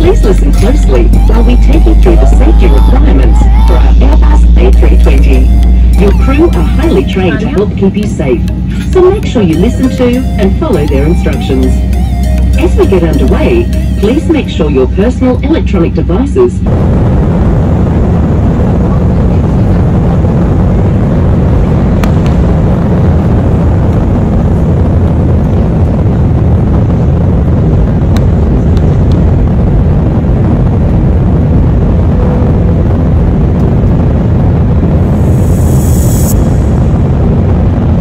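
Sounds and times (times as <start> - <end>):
rushing air: 0.0 - 9.0, 16.4 - 38.0
jet engines inside cabin: 0.0 - 38.0.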